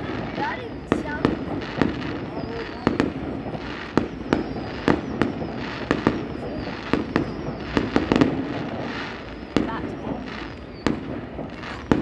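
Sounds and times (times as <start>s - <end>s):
fireworks bangs and pops: 0.0s - 12.0s
fireworks crackle: 0.0s - 12.0s.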